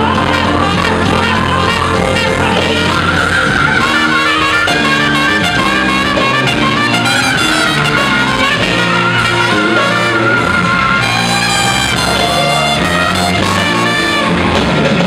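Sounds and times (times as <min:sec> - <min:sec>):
live band playing: 0:00.0 - 0:15.0
trumpet: 0:00.0 - 0:15.0.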